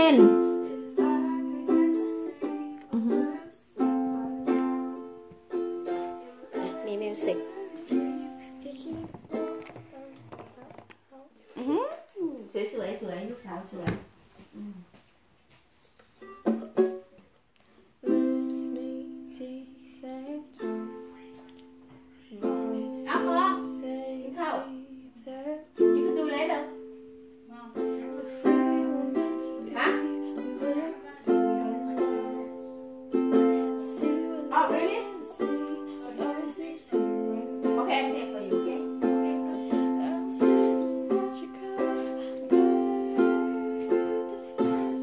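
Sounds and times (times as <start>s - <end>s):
ukulele strummed chords: 0.0s - 10.5s, 16.2s - 17.2s, 18.0s - 24.9s, 25.6s - 45.0s.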